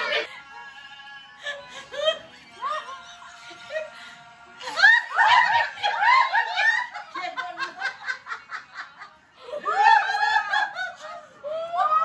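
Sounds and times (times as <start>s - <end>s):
background music: 0.0s - 12.0s
women laughing: 1.4s - 4.0s, 4.6s - 12.0s.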